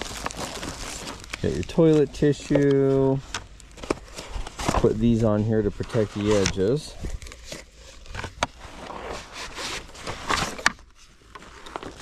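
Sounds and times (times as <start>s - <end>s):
rustling and scraping plastic: 0.0s - 12.0s.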